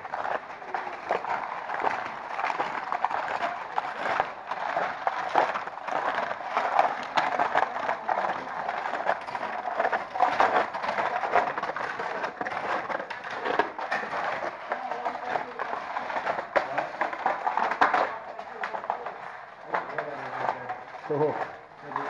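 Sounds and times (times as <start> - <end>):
footsteps crunching on icy snow: 0.0 - 22.0.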